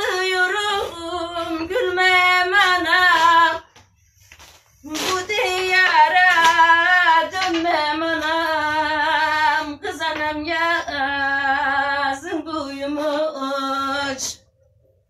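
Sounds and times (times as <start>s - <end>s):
woman singing unaccompanied: 0.0s - 3.8s, 4.8s - 14.4s.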